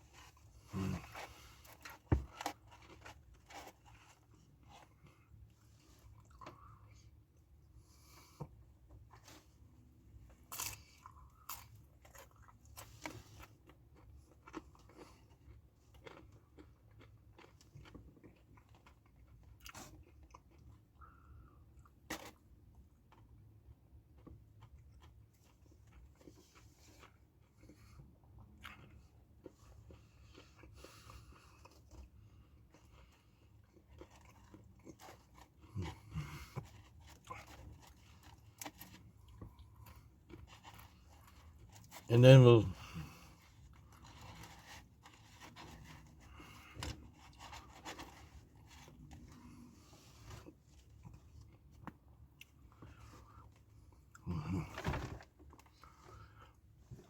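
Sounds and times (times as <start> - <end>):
chewing and crunching chips: 0.0 - 57.0
low room hum: 0.0 - 57.0.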